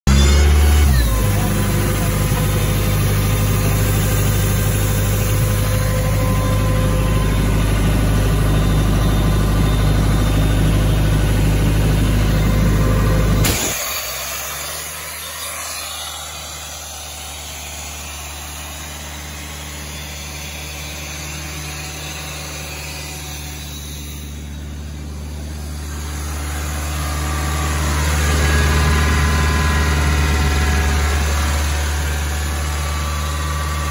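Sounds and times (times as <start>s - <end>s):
air compressor diesel engine running: 0.1s - 33.9s.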